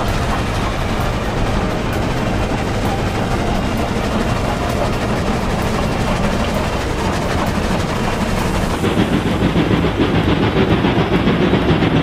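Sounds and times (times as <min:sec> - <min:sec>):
steam locomotive rumbling: 0:00.0 - 0:12.0.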